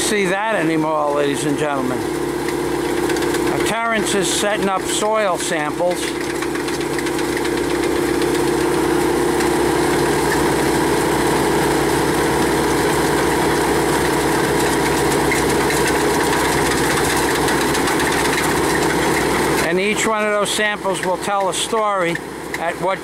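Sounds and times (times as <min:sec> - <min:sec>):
drilling rig engine running: 0:00.0 - 0:23.0.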